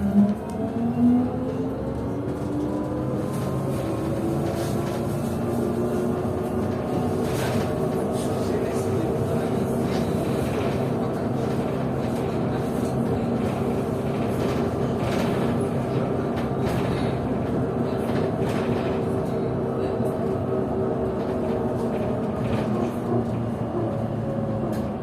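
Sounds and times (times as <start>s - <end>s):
road noise: 0.0s - 25.0s
trolleybus traction drive hum: 0.0s - 25.0s.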